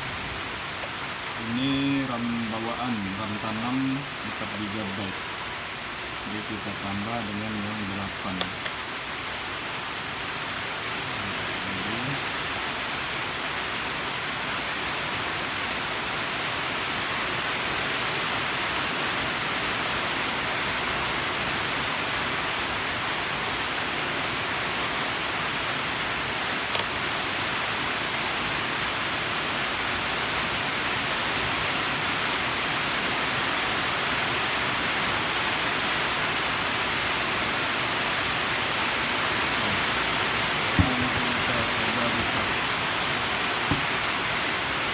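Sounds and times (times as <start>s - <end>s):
steady hiss: 0.0s - 44.9s.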